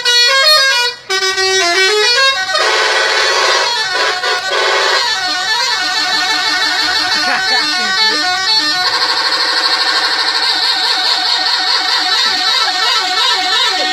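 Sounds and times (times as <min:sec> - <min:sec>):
musical air horn playing a tune: 0:00.0 - 0:13.9.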